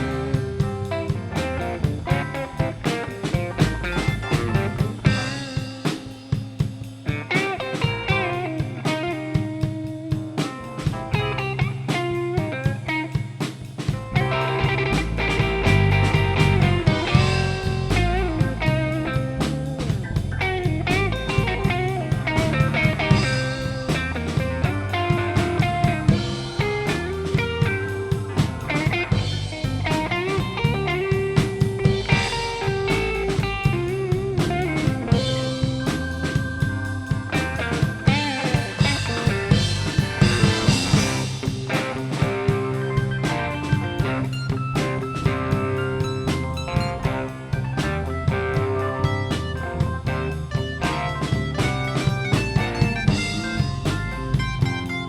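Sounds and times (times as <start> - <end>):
blues-rock band playing: 0.0 - 55.0
electric guitar lead: 0.0 - 55.0.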